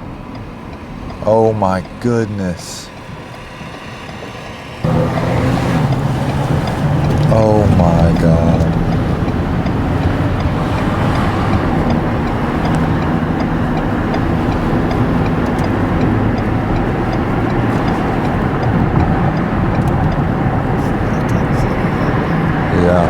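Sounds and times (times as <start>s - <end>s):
car engine hum: 0.0s - 23.0s
road and tyre noise: 0.0s - 23.0s.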